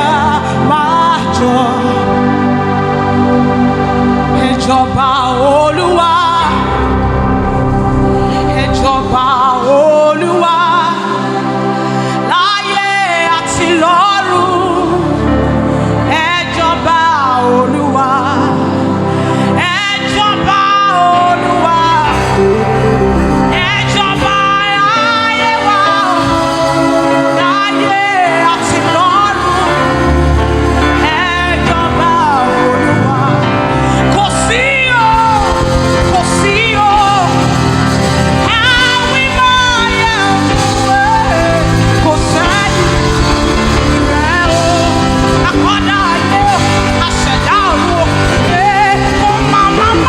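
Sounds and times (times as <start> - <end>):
band accompaniment: 0.0 - 50.0
woman singing: 0.0 - 50.0.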